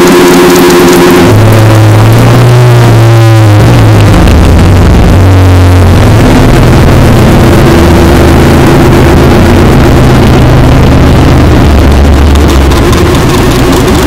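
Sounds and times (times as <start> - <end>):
distorted noise music: 0.0 - 14.0
low droning tones: 0.0 - 14.0.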